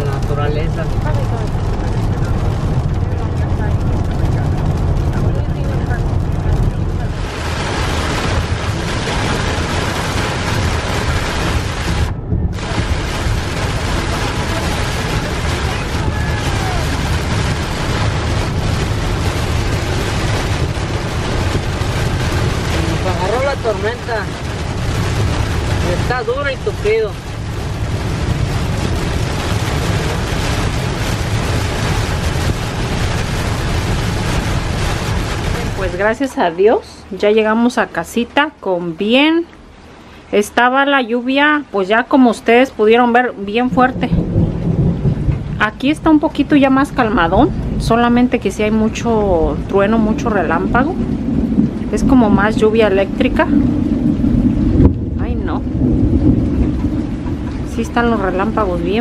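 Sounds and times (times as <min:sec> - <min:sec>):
heavy rain on car windshield: 0:00.0 - 0:38.6, 0:39.6 - 0:59.0
low road rumble: 0:00.0 - 0:59.0.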